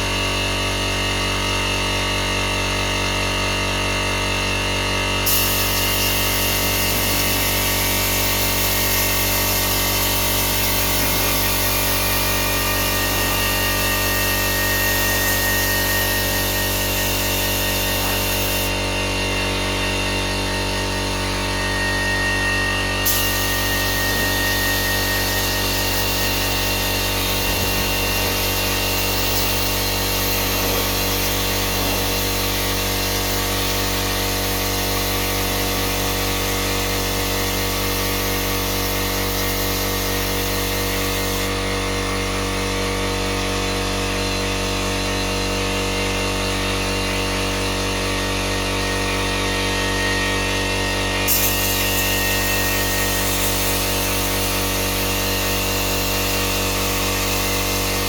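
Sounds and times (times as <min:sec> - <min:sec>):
power tool motor drone: 0:01.0 - 0:58.0.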